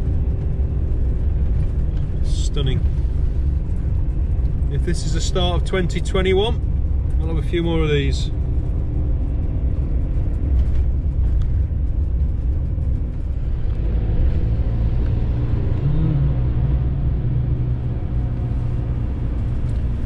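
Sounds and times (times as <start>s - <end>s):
van engine and road noise: 0.0s - 20.0s.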